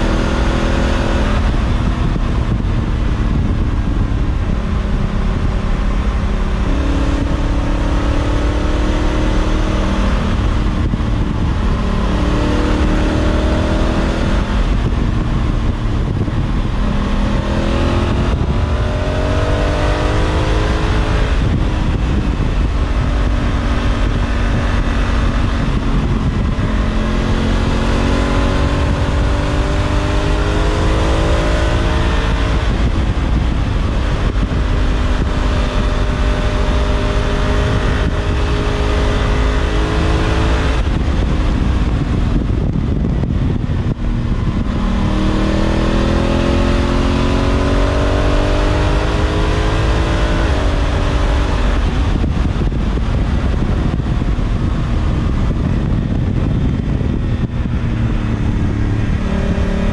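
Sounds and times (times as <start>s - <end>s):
motorcycle engine accelerating: 0.0s - 59.9s
wind noise: 0.0s - 59.9s.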